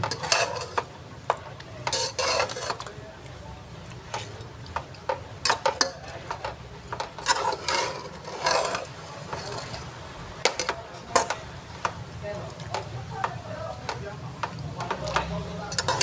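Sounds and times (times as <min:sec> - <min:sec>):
metal clicking on pot: 0:00.0 - 0:02.9, 0:04.1 - 0:09.8, 0:10.5 - 0:12.0, 0:12.6 - 0:16.0
spatula scraping pot: 0:00.0 - 0:03.0, 0:04.1 - 0:11.5, 0:12.7 - 0:16.0
spatula stirring thick sauce: 0:00.0 - 0:16.0.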